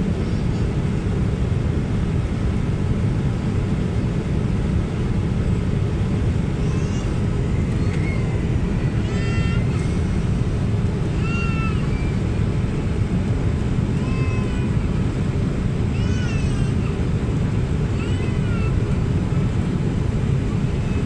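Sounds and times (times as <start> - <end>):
airliner cabin jet engine drone: 0.0 - 21.0.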